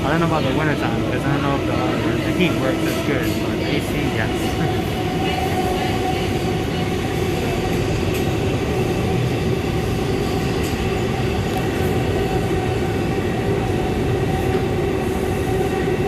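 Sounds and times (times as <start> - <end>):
steady train hum: 0.0 - 16.0
train wheels rumbling on rail: 0.0 - 16.0.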